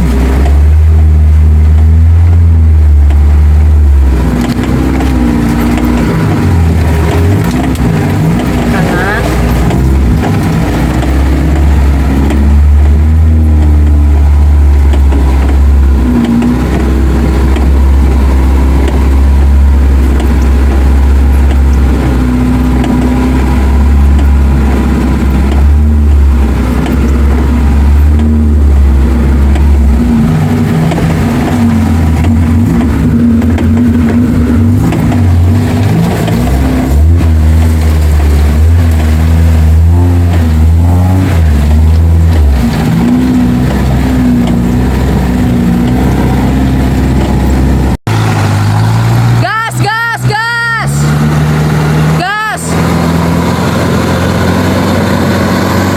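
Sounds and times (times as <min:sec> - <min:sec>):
vehicle engine droning under load: 0:00.0 - 0:55.9.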